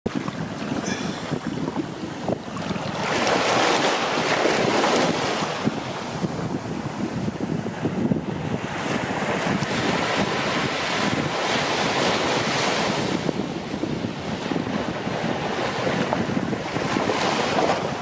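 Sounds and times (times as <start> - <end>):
sea waves breaking on shore: 0.1 - 18.0
wind buffeting microphone: 0.1 - 18.0.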